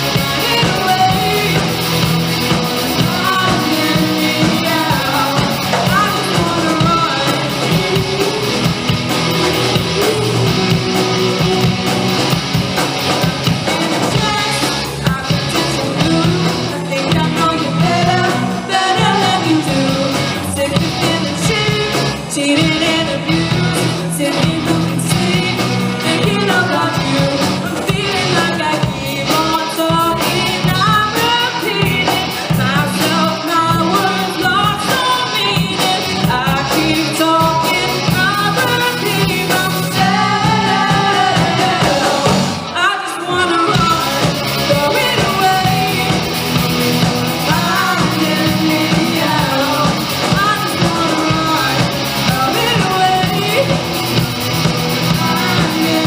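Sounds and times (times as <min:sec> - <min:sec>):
bass guitar: 0:00.0 - 0:56.0
drums: 0:00.0 - 0:56.0
electric guitars: 0:00.0 - 0:56.0
person singing lead vocal: 0:00.0 - 0:56.0.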